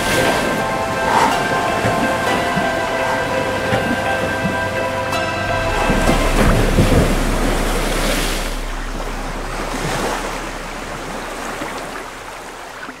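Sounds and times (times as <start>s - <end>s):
heavy water splash: 0.0s - 13.0s
surf rushing: 0.0s - 13.0s.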